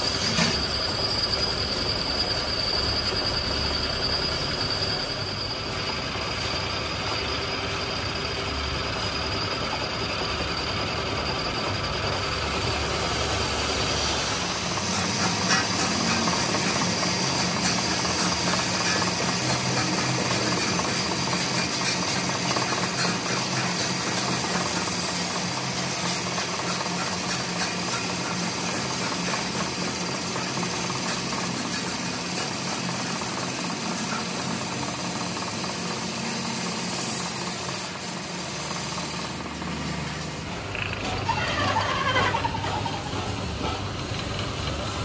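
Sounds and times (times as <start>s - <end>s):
high machine whine: 0.0s - 45.0s
machinery clatter: 0.0s - 45.0s.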